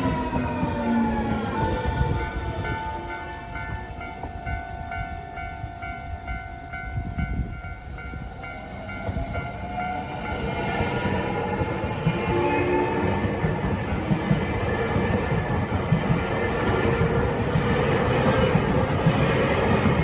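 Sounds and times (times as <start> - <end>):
electric train whine: 0.0 - 20.0
train wheels rumbling and clattering: 0.0 - 20.0.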